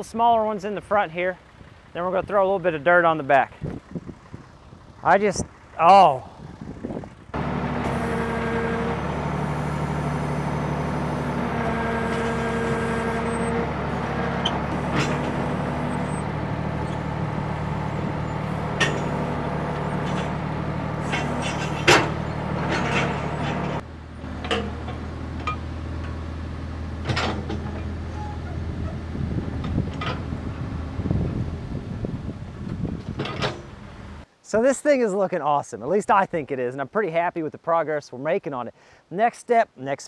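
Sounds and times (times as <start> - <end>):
backhoe engine running: 0.0 - 34.3.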